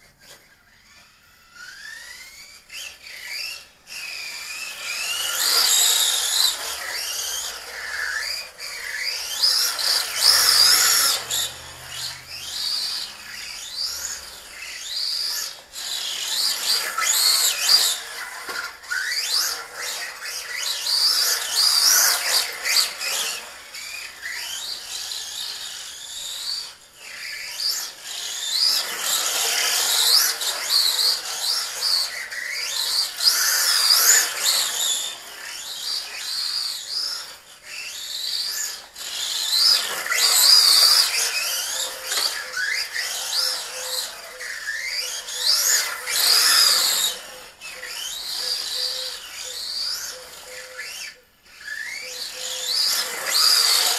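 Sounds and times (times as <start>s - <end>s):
electric motor whine: 0.0s - 53.9s.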